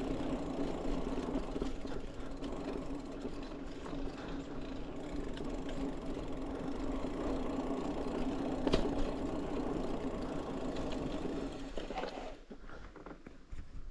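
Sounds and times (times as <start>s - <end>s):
bike rattle: 0.0s - 12.4s
bike tyres buzzing on dirt: 0.0s - 12.8s.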